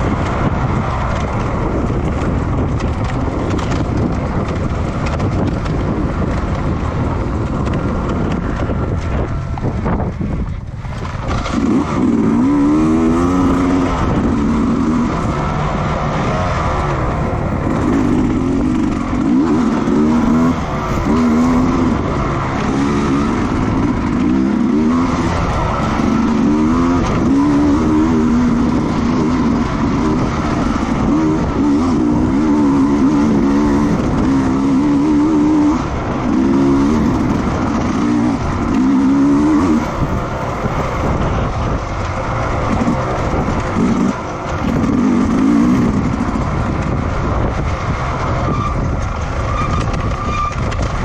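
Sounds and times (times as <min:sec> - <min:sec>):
racing motorcycle engines revving: 0:00.0 - 0:51.0.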